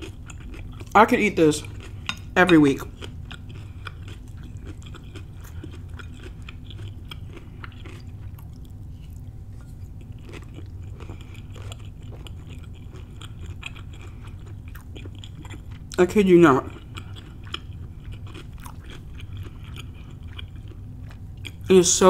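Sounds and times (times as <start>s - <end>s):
person chewing with mouth clicks: 0.0s - 1.0s, 1.6s - 16.0s, 16.6s - 21.7s
low steady hum: 0.0s - 22.0s.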